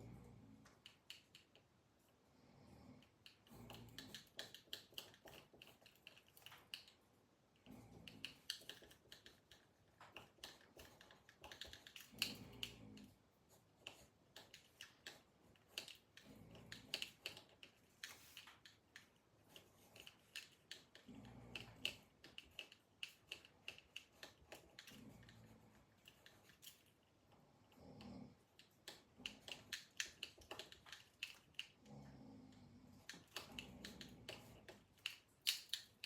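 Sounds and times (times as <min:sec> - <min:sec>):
small irregular clicks: 0:00.0 - 0:36.0.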